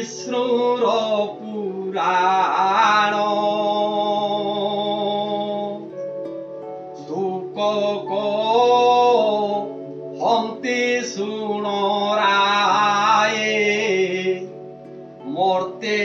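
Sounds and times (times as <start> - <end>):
man singing slow devotional song: 0.0 - 5.9, 7.0 - 14.6, 15.3 - 16.0.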